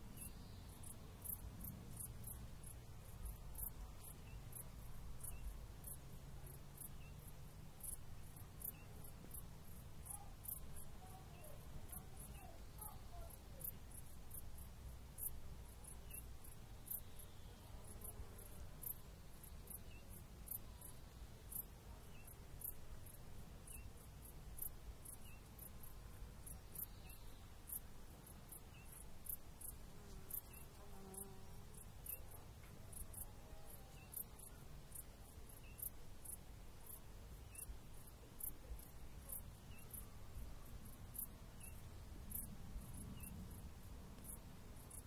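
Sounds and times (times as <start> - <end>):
insect chirping: 0.1 - 45.0.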